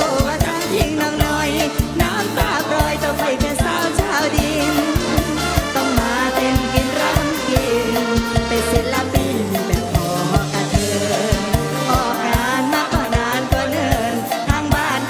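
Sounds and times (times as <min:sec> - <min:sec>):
fast drum beat: 0:00.0 - 0:15.0
live band music: 0:00.0 - 0:15.0
woman singing: 0:00.0 - 0:15.0.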